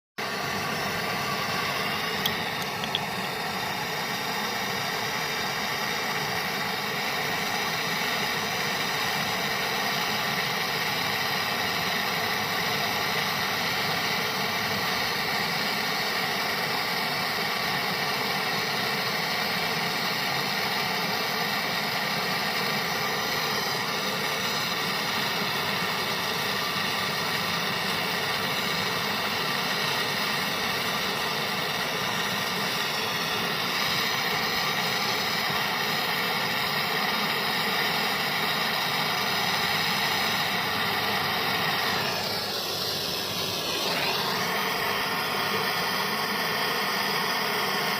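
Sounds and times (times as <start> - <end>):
machine humming: 0.2 - 47.9.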